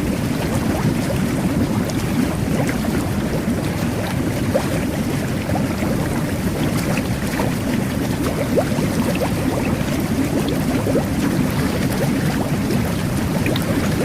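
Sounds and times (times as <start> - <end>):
whirlpool tub bubbling water: 0.0 - 14.0.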